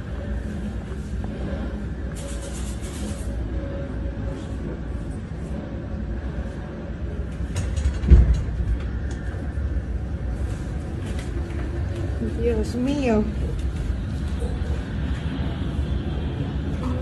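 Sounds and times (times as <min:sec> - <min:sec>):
jet airliner rumble: 0:00.0 - 0:17.0.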